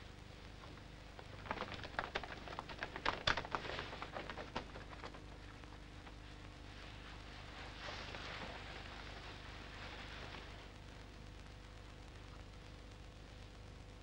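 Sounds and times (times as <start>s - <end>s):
soundtrack hiss: 0.0s - 14.0s.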